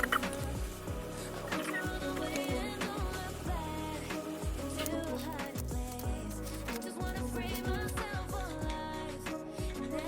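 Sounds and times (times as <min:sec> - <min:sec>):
synth music with steady beat: 0:00.0 - 0:10.0.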